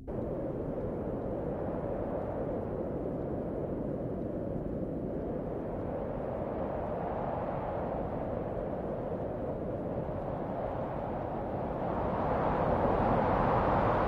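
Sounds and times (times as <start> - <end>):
steady rushing rumble: 0.0 - 14.0.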